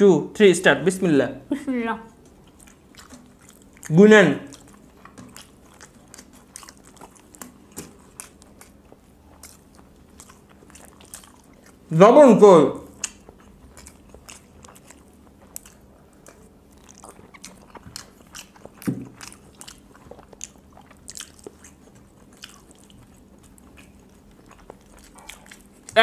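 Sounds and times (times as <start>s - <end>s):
people chewing: 2.1s - 26.0s.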